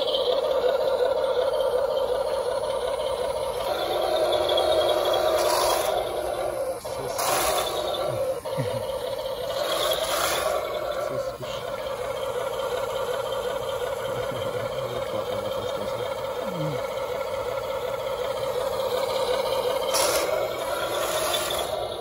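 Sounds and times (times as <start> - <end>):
model tractor motor whirring: 0.0 - 22.0.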